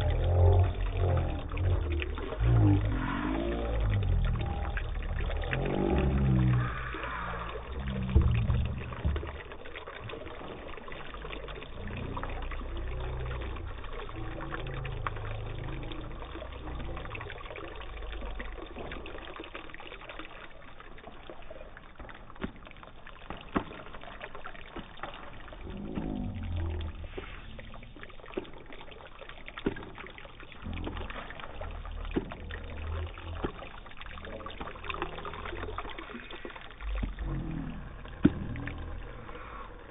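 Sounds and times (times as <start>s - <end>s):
low uneven rumble: 0.0s - 39.9s
water trickling over pebbles: 0.0s - 39.9s.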